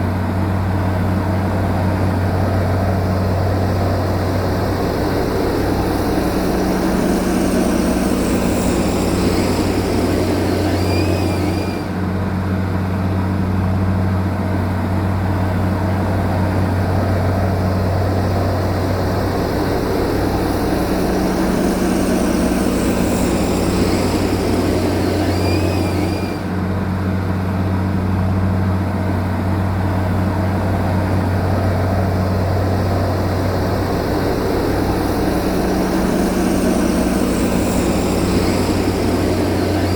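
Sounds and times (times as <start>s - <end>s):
heavy machinery engine drone: 0.0s - 39.9s.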